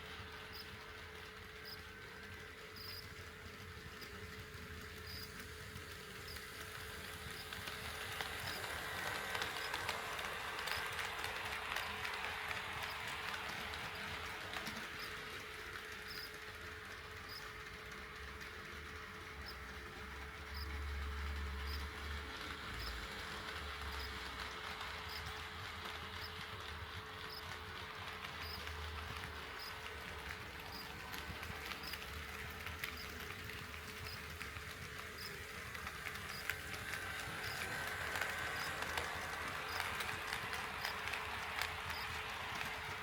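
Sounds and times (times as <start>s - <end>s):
model train rumbling on track: 0.0s - 43.0s.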